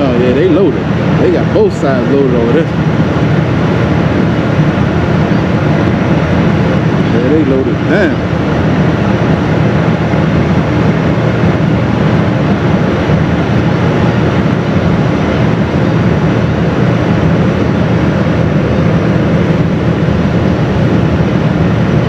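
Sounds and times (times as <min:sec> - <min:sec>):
ferry engine low rumble: 0:00.0 - 0:22.0.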